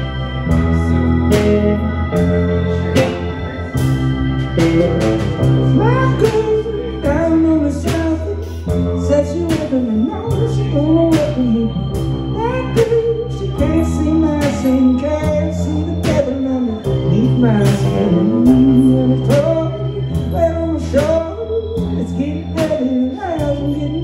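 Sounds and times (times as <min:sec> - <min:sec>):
bass line: 0:00.0 - 0:24.0
guitar lead melody with bending notes: 0:00.0 - 0:24.0
organ sustaining chords: 0:00.0 - 0:24.0
drums and cymbals: 0:01.3 - 0:12.1, 0:13.6 - 0:23.6.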